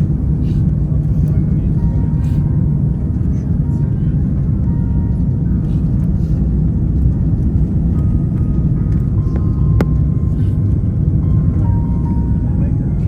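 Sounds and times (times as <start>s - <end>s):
airliner engines rumbling in cabin: 0.0s - 13.0s.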